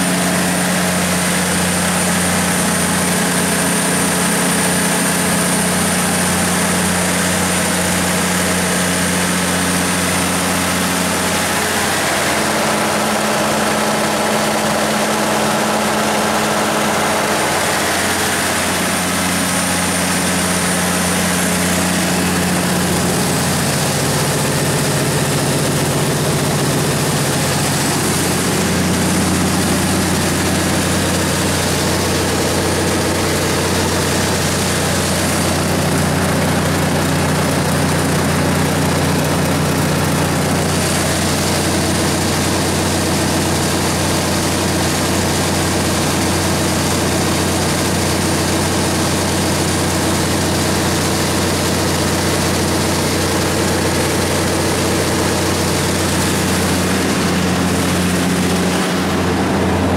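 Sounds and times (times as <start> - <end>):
diesel generator engine droning: 0.0 - 59.9.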